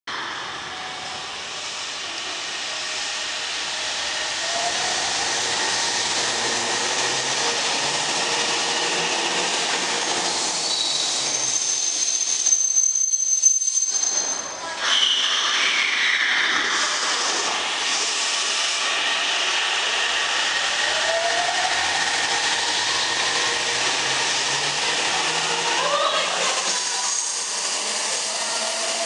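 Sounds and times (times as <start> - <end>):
rising motor whine: 0.1 - 12.9, 15.1 - 29.0
electric train running: 0.1 - 15.8, 16.7 - 29.0
high wheel squeal: 0.2 - 29.0.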